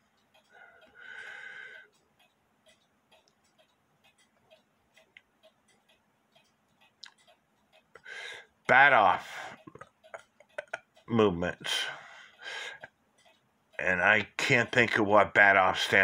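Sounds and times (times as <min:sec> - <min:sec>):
mechanical clock ticking: 0:00.0 - 0:16.0.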